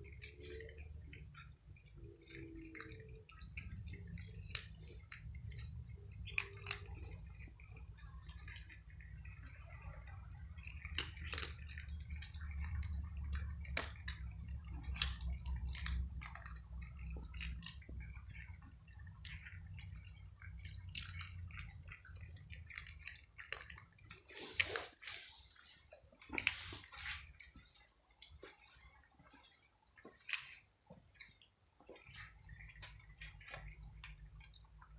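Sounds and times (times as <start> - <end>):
cats crunching dry kibble: 0.0 - 34.9.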